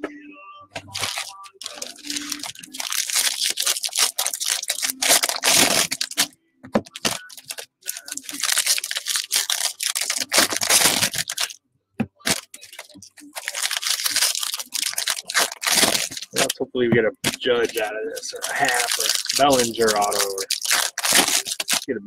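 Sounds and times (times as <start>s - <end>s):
foil wrappers tearing and crinkling: 0.9s - 6.3s, 6.9s - 11.6s, 12.2s - 16.6s, 17.2s - 21.9s.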